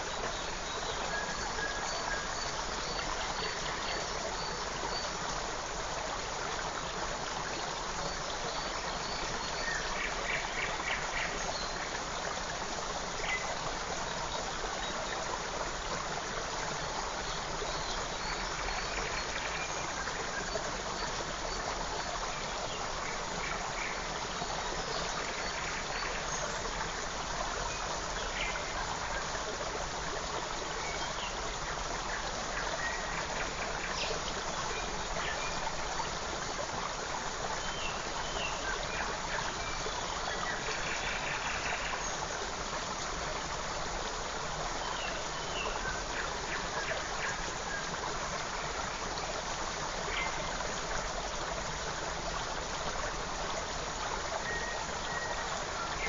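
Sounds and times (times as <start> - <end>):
creek running: 0.0 - 56.0.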